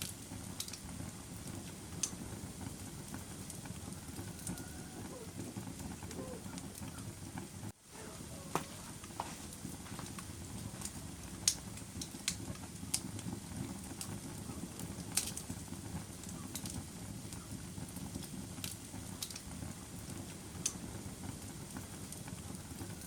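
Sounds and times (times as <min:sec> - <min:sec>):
low rumble of flame: 0:00.0 - 0:23.0
wood fire crackling and popping: 0:00.0 - 0:23.0.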